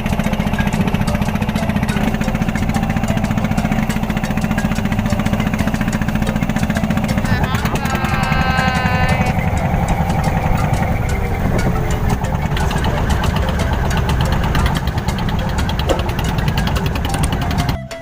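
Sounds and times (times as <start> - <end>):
boat diesel engine thudding: 0.0 - 18.0.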